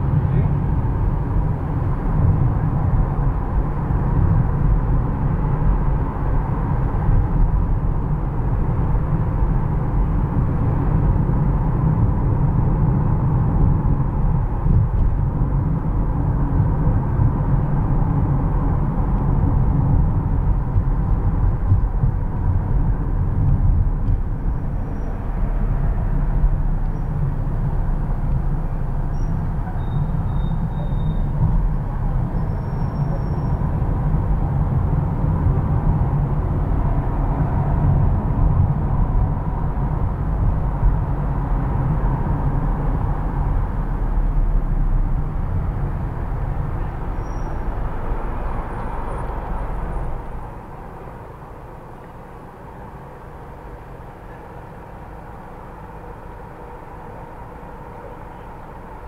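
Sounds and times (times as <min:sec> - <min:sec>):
car engine hum: 0:00.0 - 0:59.0
tyre and road noise: 0:00.0 - 0:59.0.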